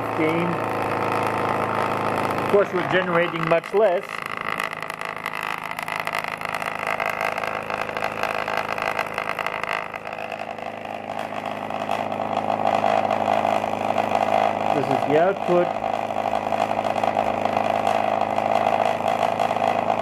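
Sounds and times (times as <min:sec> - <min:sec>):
generator rig humming with buzzing pulse: 0:00.0 - 0:20.0.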